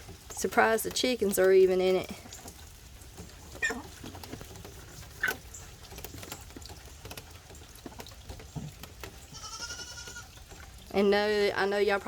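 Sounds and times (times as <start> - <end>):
rain pattering: 0.0 - 12.0
water drips: 0.0 - 12.0.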